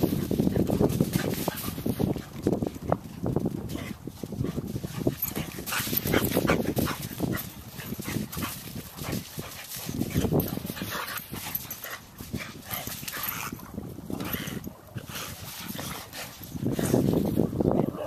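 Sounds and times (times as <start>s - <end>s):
dogs vocalizing while playing: 0.0s - 18.0s
paws scuffling in sand: 0.0s - 18.0s.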